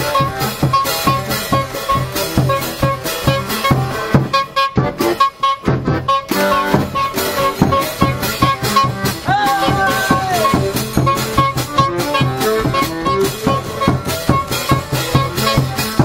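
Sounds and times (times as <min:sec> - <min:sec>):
accordion chords: 0:00.0 - 0:16.0
drum and cymbal beat: 0:00.0 - 0:16.0.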